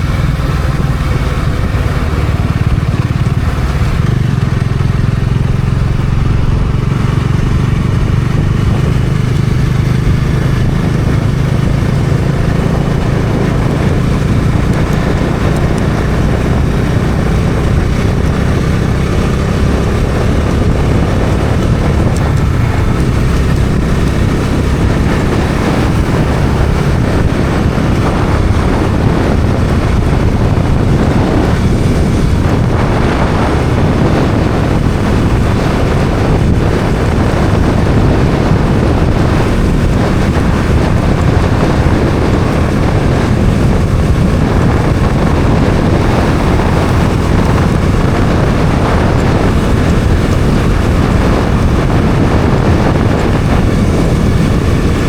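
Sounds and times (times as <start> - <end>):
motorcycle engine running: 0.0 - 55.0
wind rush over microphone: 0.0 - 55.0.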